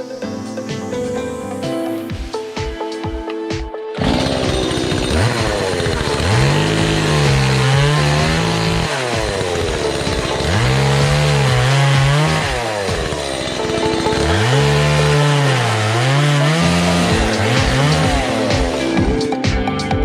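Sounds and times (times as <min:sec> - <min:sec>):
chainsaw revving and cutting wood: 0:04.0 - 0:20.0.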